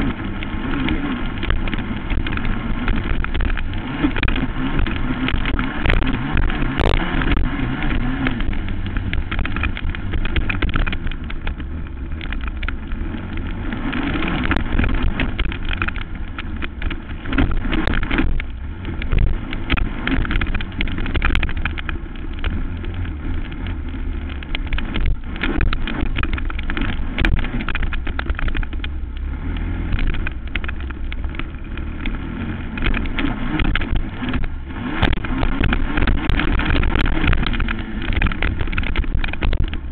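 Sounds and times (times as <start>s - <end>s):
knocks and rattles: 0.0s - 39.9s
quad engine running hard: 0.0s - 39.9s.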